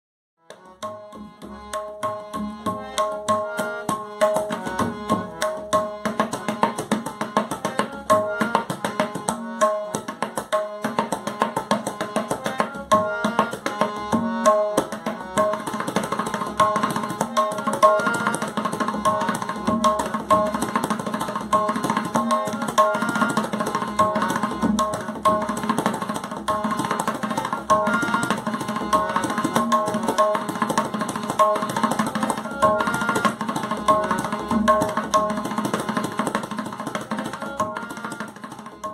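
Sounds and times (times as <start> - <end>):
repeating instrumental melody: 0.8 - 36.2.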